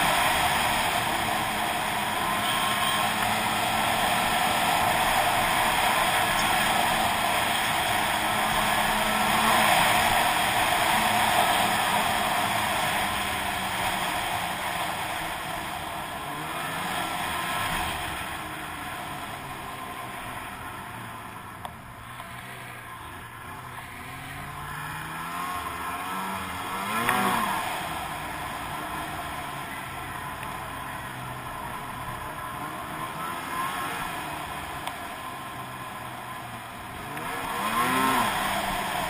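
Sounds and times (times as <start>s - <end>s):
snowmobile engine running: 0.0s - 39.0s
steady rushing noise: 0.0s - 39.0s.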